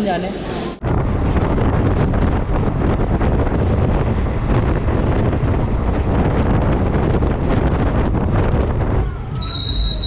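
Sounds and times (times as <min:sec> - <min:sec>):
moving train running noise: 0:00.0 - 0:10.0
wind buffeting microphone: 0:00.8 - 0:10.0.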